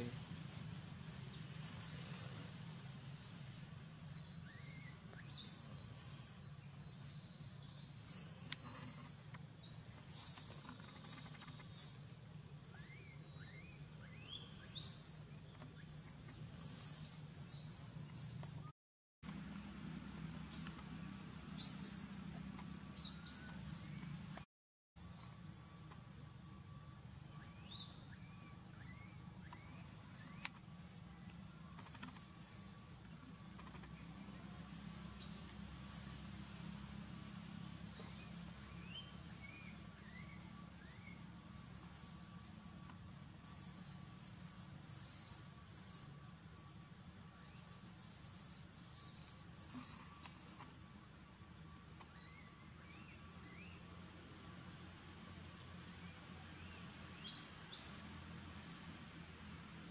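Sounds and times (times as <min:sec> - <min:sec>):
insect drone: 0:00.0 - 0:18.7, 0:19.3 - 0:59.9.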